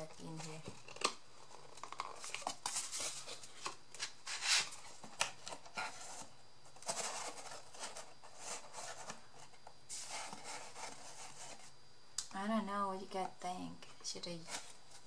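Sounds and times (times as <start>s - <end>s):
cardboard and paper rustling: 0.0s - 11.7s, 14.1s - 15.0s.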